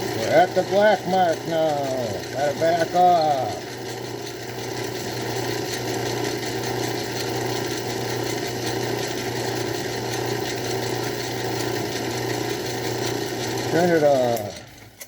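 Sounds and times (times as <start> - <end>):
lathe humming: 0.0 - 15.0.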